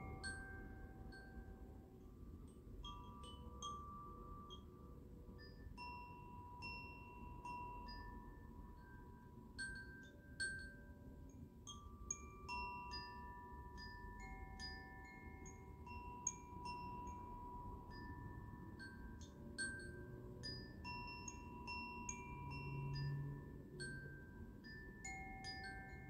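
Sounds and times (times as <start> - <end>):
metal chimes ringing: 0.0 - 1.7, 2.5 - 26.0.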